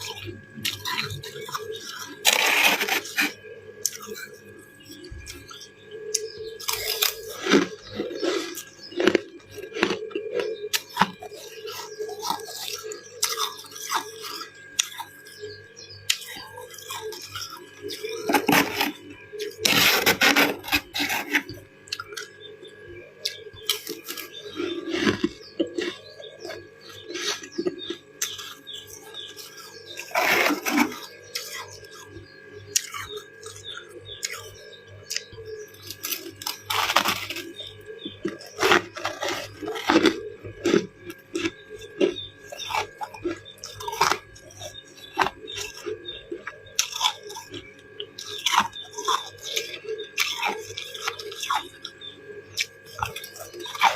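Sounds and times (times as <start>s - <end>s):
ice crunching and chewing: 0.0s - 53.9s.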